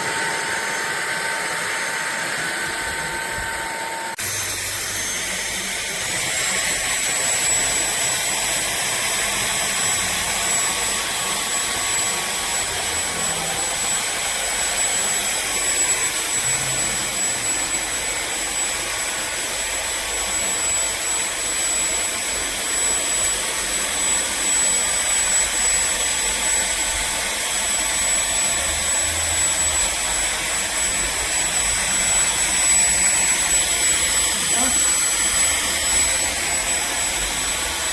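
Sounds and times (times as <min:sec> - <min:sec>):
stick vacuum running: 0:00.0 - 0:37.9.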